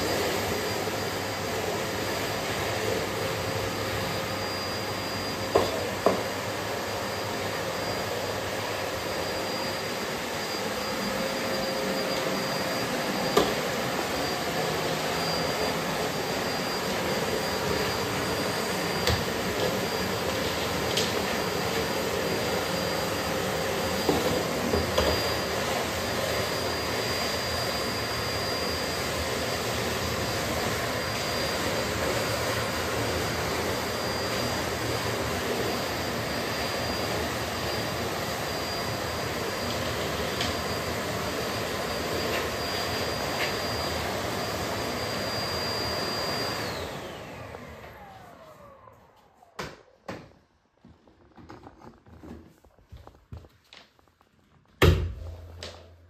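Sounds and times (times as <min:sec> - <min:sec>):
vacuum cleaner whining: 0:00.0 - 0:56.0.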